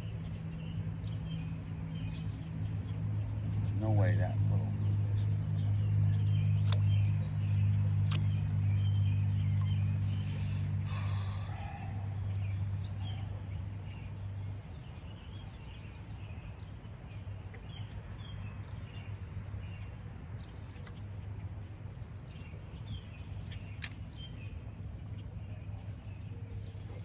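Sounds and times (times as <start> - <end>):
low steady hum: 0.0 - 27.0
small birds chirping: 0.0 - 27.0.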